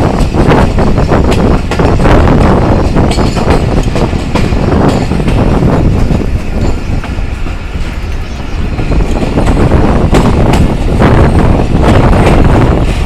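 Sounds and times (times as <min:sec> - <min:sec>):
train wheels rumbling on rails: 0:00.0 - 0:13.0
wheel clatter over rail joints: 0:00.0 - 0:13.0.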